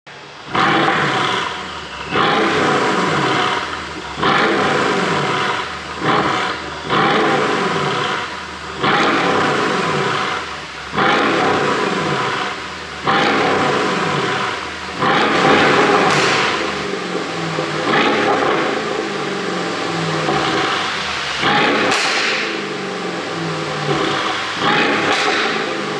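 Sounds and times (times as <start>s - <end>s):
car engine revving: 0.1s - 25.9s
exhaust popping and crackling: 0.1s - 25.9s.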